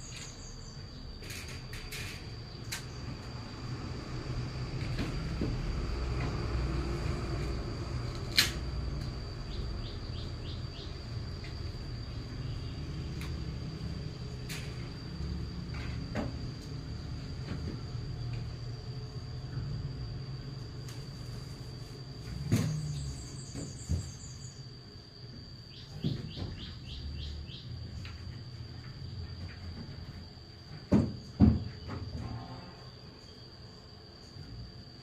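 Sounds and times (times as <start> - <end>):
insects droning: 0.0 - 35.0.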